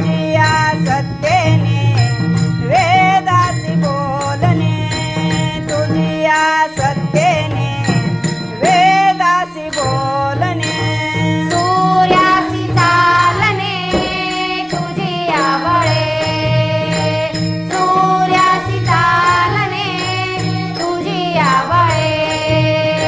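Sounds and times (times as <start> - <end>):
hand cymbals: 0.0 - 23.0
ornamented devotional melody: 0.0 - 23.0.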